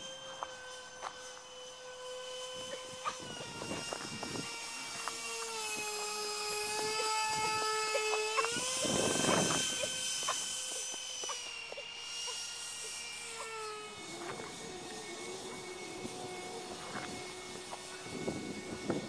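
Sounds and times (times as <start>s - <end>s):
electric ducted fans whining: 0.0s - 19.0s.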